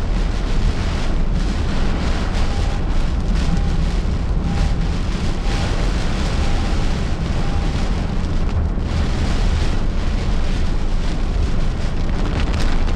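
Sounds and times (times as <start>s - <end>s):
storm wind and rain: 0.0s - 12.9s.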